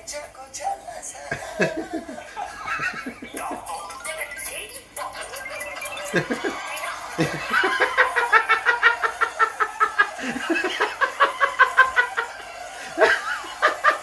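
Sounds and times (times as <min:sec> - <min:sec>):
high-pitched cackling laughter: 0:01.3 - 0:04.0, 0:05.0 - 0:14.0.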